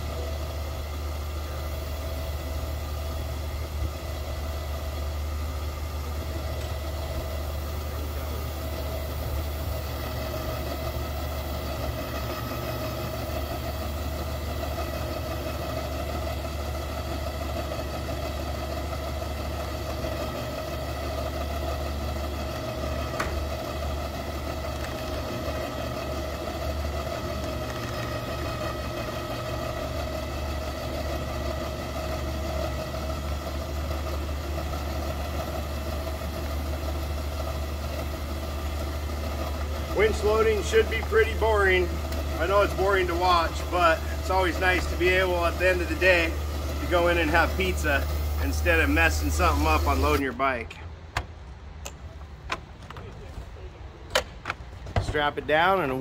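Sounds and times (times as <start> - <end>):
electric winch motor hum: 0.0 - 50.4.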